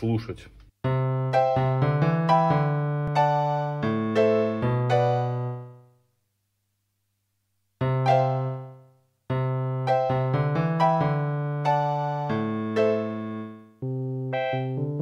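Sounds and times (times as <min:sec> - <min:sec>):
electronic keyboard piano notes: 0:00.8 - 0:05.8, 0:07.8 - 0:15.0.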